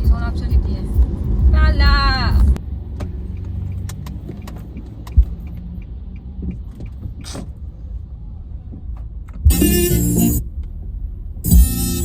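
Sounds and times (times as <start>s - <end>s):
car rumble from inside: 0.0s - 12.0s.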